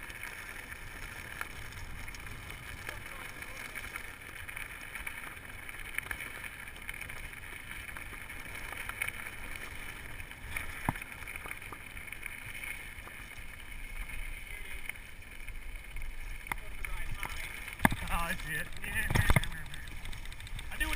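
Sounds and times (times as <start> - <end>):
mountain bike rumbling and rattling: 0.0 - 20.9.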